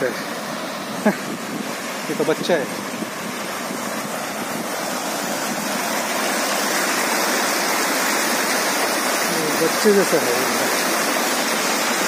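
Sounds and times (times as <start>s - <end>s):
stream flowing over stones: 0.0s - 12.0s.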